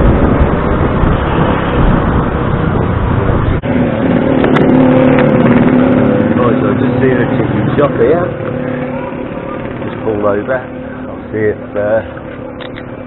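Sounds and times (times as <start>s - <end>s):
scooter engine running: 0.0s - 13.0s
wind and road rumble: 0.0s - 13.0s.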